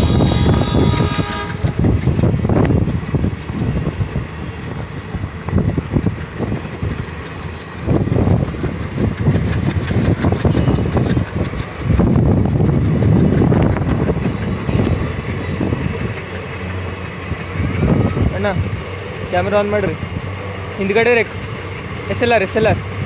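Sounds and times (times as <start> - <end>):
train wheels clattering over rail joints: 0.0 - 23.0.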